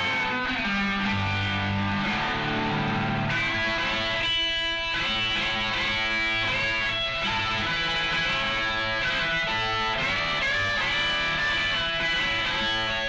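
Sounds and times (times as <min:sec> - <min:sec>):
electric guitar lead: 0:00.0 - 0:13.0.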